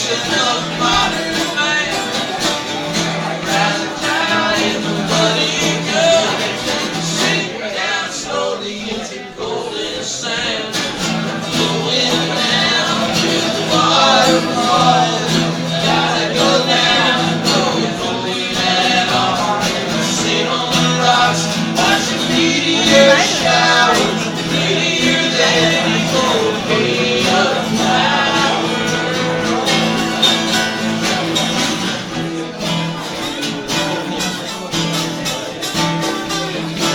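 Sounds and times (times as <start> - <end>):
person singing: 0.0 - 34.5
guitar: 0.0 - 36.9.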